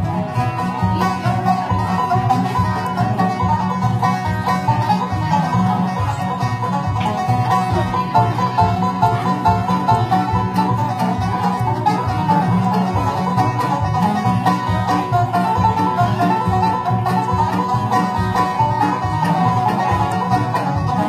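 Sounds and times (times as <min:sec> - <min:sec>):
banjo picking: 0:00.0 - 0:21.0
bluegrass band playing: 0:00.0 - 0:21.0.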